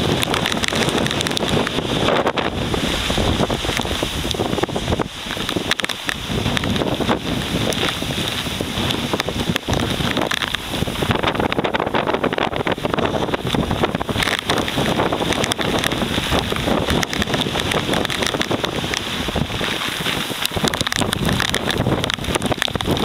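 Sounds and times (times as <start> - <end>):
storm wind gusting: 0.0 - 23.0
wind buffeting the microphone: 0.0 - 23.0.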